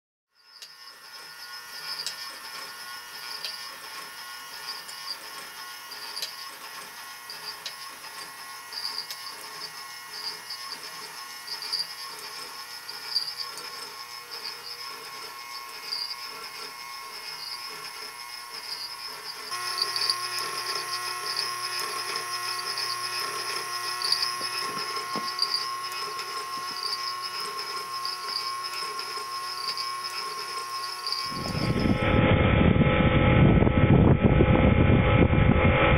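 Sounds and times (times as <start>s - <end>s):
small electric motor whirring: 0.3s - 32.3s
steady hum: 1.0s - 35.9s.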